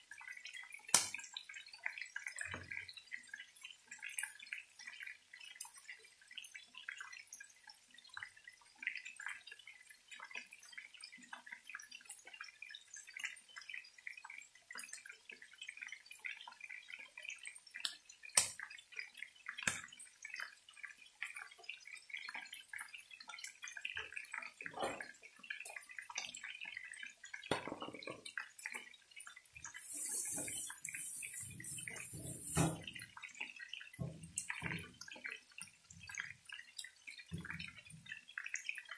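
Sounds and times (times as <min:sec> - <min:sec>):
chicken frying in hot oil: 0:00.0 - 0:38.9.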